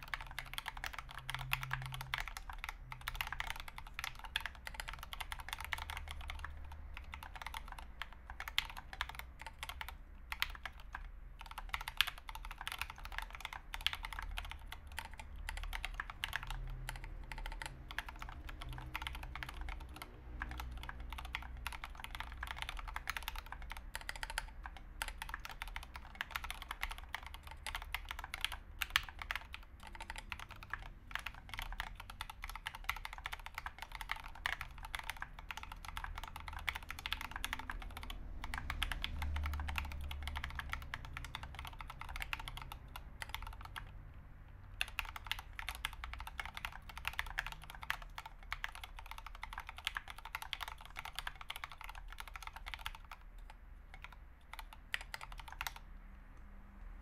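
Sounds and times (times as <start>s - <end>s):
fast mechanical keyboard typing: 0.0s - 55.9s.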